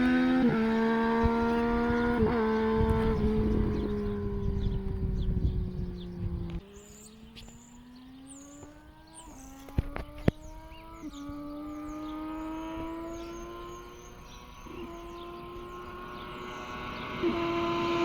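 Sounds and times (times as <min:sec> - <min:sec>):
birds chirping: 0:00.0 - 0:18.0
motorcycle engine accelerating: 0:00.0 - 0:18.0.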